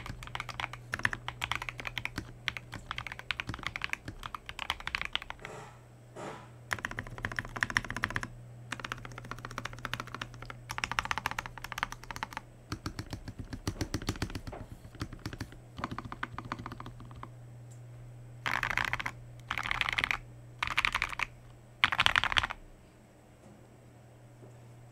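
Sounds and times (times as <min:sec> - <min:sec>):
mechanical keyboard typing: 0:00.0 - 0:05.5, 0:06.7 - 0:17.3, 0:18.4 - 0:22.6.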